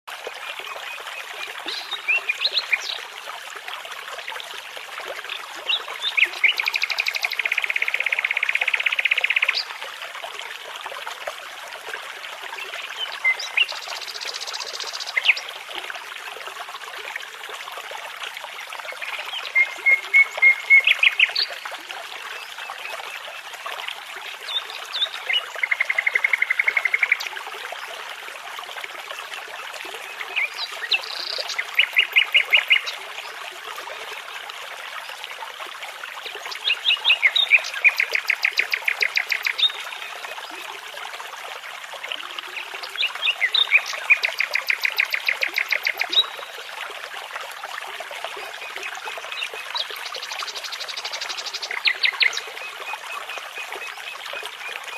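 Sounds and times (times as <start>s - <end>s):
brook babbling: 0.0s - 54.9s.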